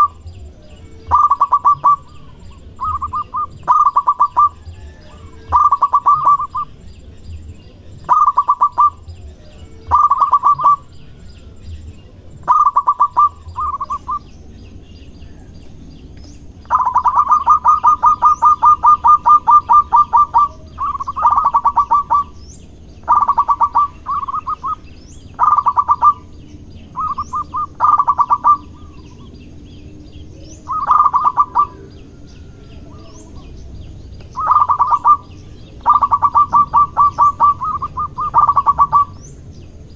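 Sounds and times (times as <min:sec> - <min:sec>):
dove cooing: 0:00.0 - 0:15.6, 0:16.4 - 0:39.4.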